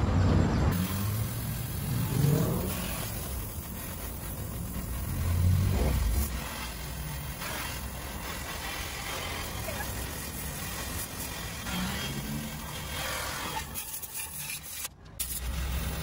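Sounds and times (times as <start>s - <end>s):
vehicle engines passing: 0.0s - 13.6s.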